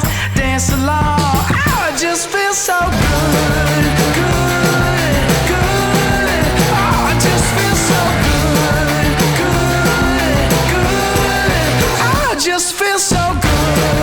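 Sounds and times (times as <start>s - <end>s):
upbeat pop song: 0.0s - 14.0s.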